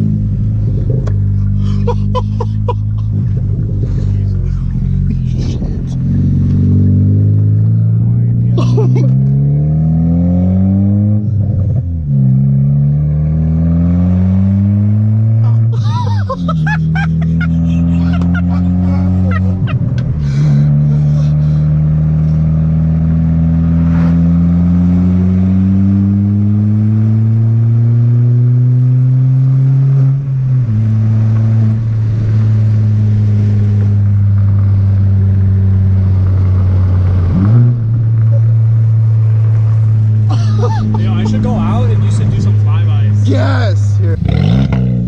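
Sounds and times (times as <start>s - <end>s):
loud car engine accelerating: 0.0s - 45.0s.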